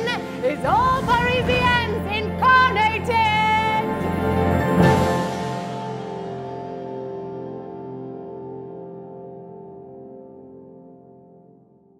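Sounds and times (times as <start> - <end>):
music: 0.0 - 11.9.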